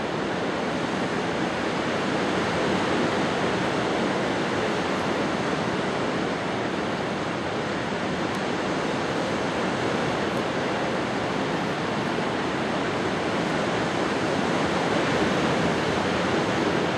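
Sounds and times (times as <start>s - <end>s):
surf washing: 0.0s - 16.9s
wind: 0.0s - 16.9s.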